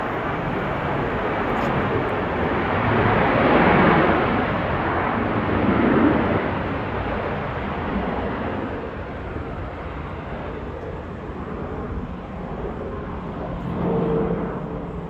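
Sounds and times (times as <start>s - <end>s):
jet airliner engine rush: 0.0s - 15.0s.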